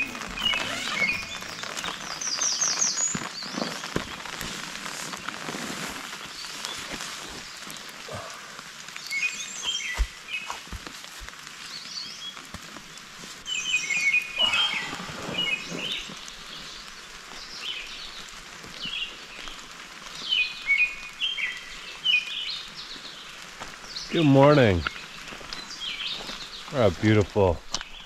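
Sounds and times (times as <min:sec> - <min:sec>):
songbirds chirping: 0:00.0 - 0:04.4, 0:06.1 - 0:10.7, 0:11.3 - 0:28.0
light rain patter: 0:00.0 - 0:28.0.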